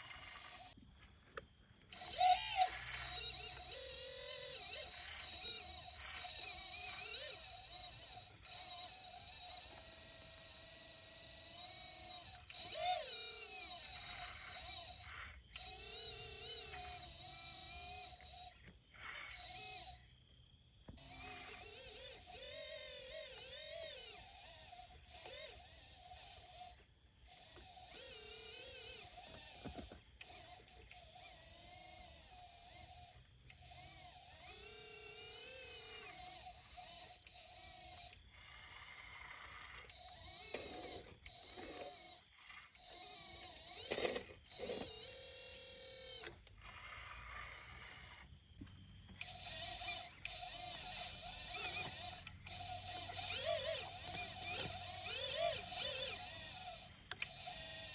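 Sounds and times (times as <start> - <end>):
electric whine of toy excavator: 0.0 - 57.9.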